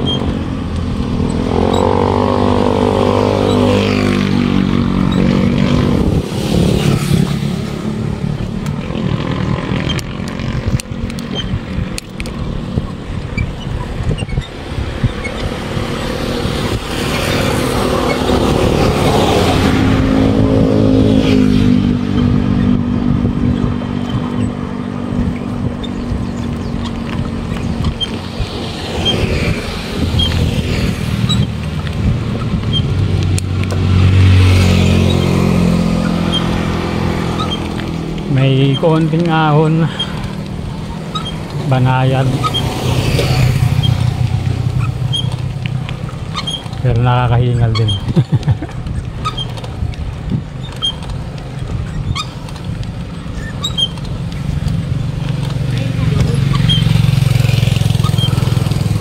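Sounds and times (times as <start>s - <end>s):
road noise from bicycle: 0.0s - 59.0s
vehicle engines passing: 0.0s - 59.0s
wind rumbling on microphone: 0.0s - 59.0s.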